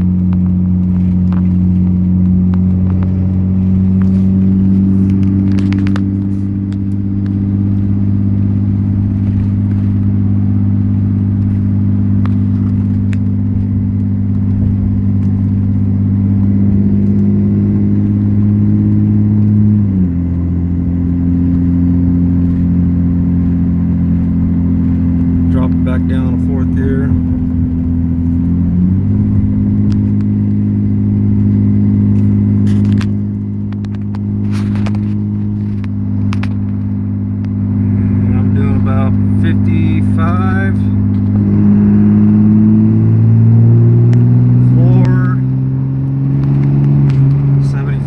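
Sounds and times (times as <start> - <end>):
diesel truck engine droning: 0.0 - 48.0.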